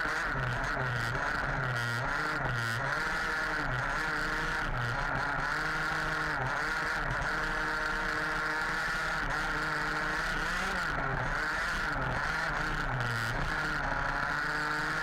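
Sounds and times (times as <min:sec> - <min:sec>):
small two-stroke engine revving: 0:00.0 - 0:15.0.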